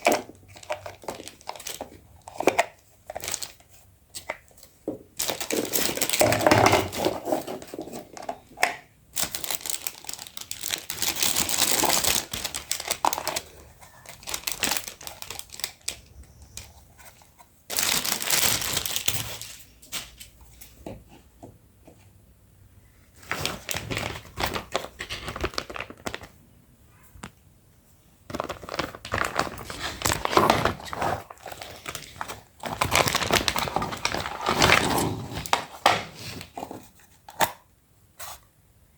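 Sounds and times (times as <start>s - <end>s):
plastic packaging crinkling: 0.0s - 20.4s, 23.2s - 26.4s, 28.3s - 36.8s.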